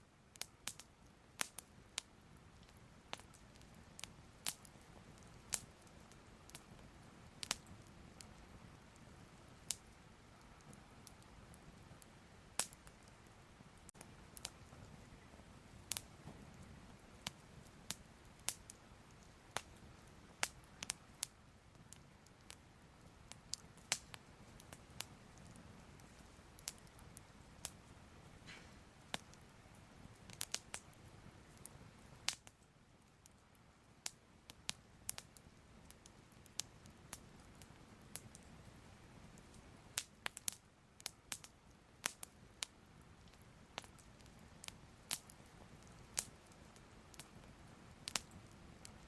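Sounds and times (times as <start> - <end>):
fire crackling: 0.0 - 49.0.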